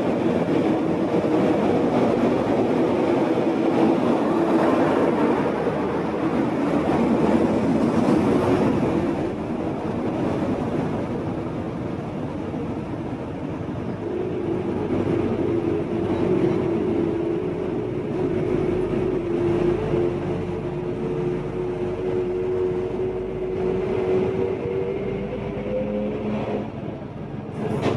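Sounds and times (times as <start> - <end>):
road rumble: 0.0 - 27.9.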